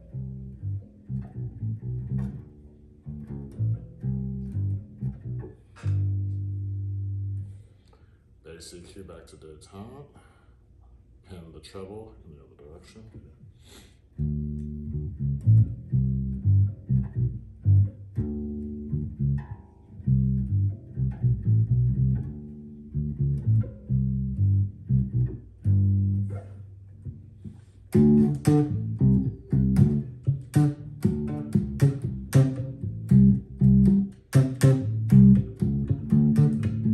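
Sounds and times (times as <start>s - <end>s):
plucked electric bass notes: 0.0s - 7.7s, 14.2s - 36.9s.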